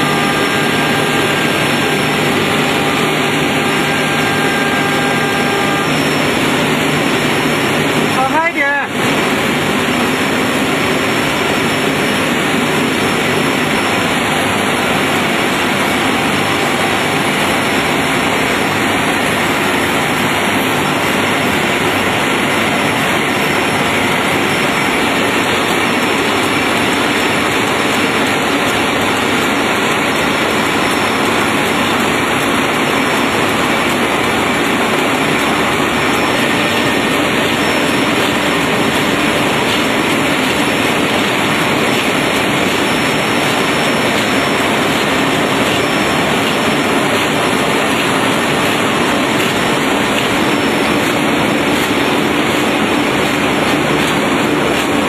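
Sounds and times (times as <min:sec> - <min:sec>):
production line machinery rattling: 0:00.0 - 0:55.0.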